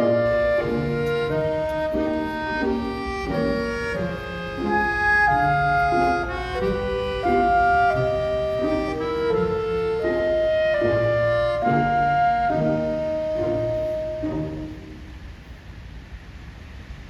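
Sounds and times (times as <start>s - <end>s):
gentle instrumental melody: 0.0s - 15.2s.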